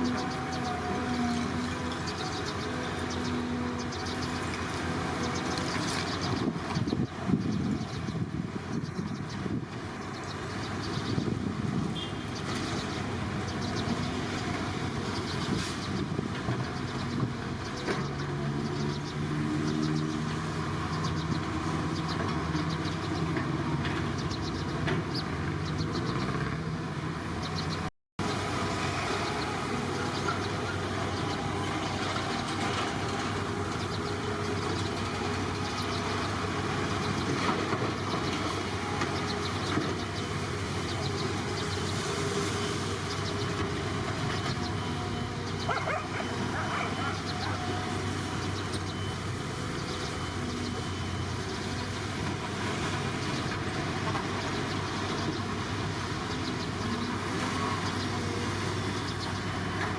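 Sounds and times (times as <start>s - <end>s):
heavy machinery engines running: 0.0s - 59.9s.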